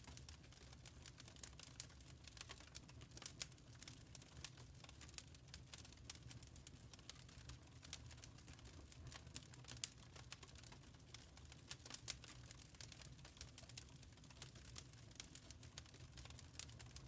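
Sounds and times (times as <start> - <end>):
faint fire crackling: 0.0 - 17.0.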